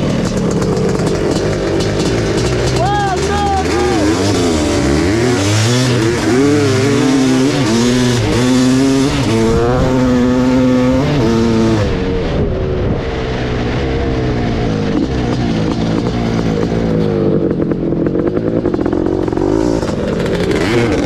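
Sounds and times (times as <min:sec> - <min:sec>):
two-stroke engine revving: 0:00.0 - 0:21.0.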